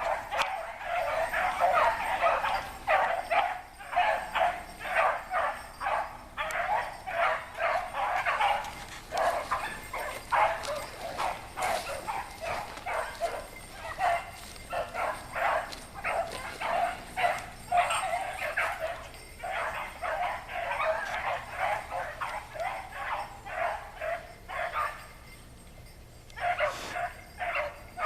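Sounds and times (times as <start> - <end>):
hounds baying: 0.0 - 28.0.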